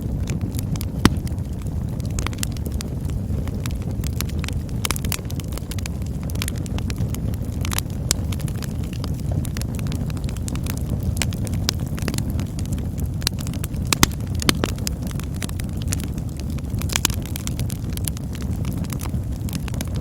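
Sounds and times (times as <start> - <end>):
campfire rumble: 0.0 - 20.0
fire crackling and snapping: 0.0 - 20.0
fire popping: 0.0 - 20.0.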